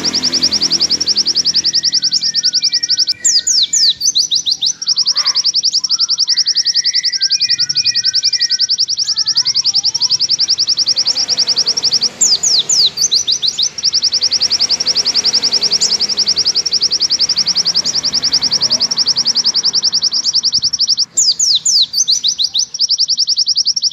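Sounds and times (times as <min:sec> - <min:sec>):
bird singing fast trill: 0:00.0 - 0:23.9
soft low bird chirps: 0:00.0 - 0:23.9.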